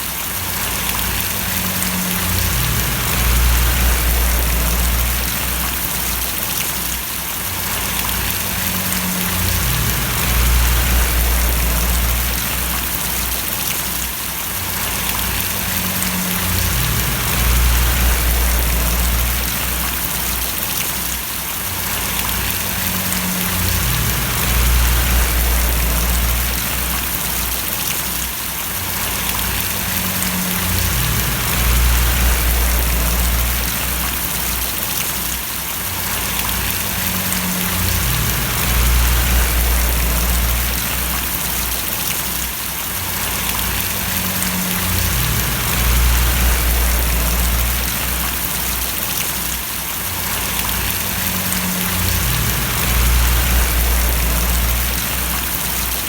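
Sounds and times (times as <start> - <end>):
steady rain splashing: 0.0 - 56.0
low rumble: 0.7 - 6.4, 7.7 - 13.8, 14.7 - 20.6, 22.0 - 28.0, 29.0 - 34.8, 36.1 - 42.1, 43.1 - 49.0, 50.3 - 56.0.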